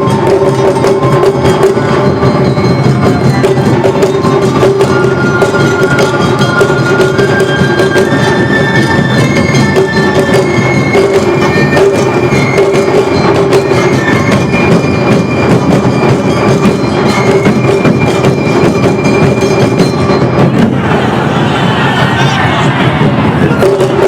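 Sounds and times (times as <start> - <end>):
drums beating: 0.0 - 24.0.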